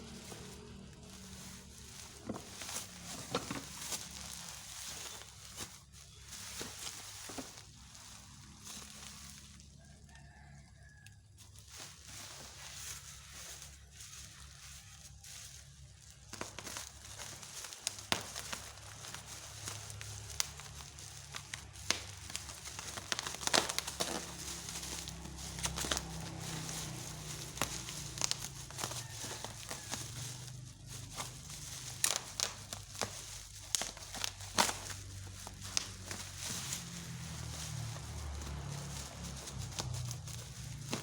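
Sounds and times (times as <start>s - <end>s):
plastic and cardboard crinkling: 0.0s - 41.0s.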